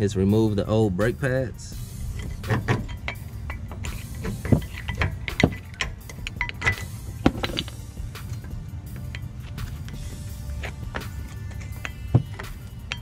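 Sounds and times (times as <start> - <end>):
metallic clicks and knocks: 2.0 - 13.0.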